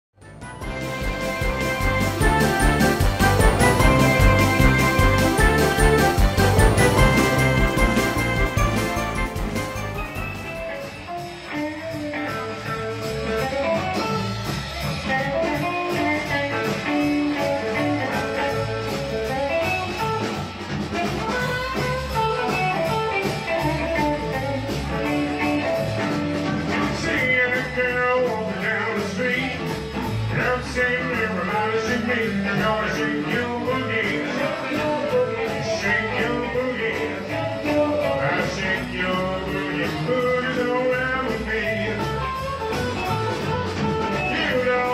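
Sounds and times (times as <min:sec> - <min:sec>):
drum kit: 0:00.2 - 0:44.9
electric bass: 0:00.2 - 0:44.9
electric guitar: 0:00.5 - 0:44.9.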